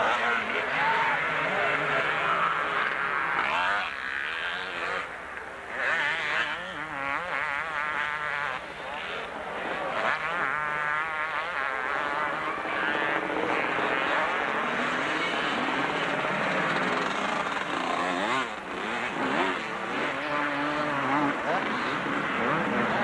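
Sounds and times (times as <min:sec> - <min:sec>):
motocross bikes revving: 0:00.0 - 0:23.0.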